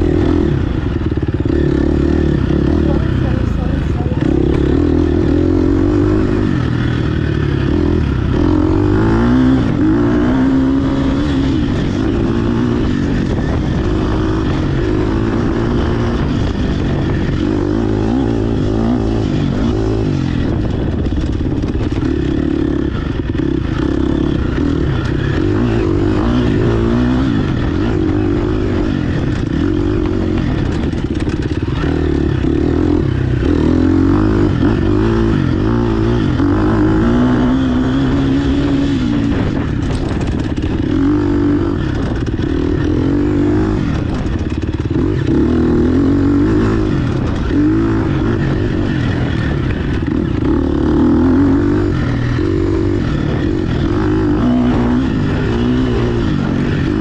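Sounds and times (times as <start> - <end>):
dirt bike engine revving: 0.0 - 57.0
rattle and rush of riding: 0.0 - 57.0.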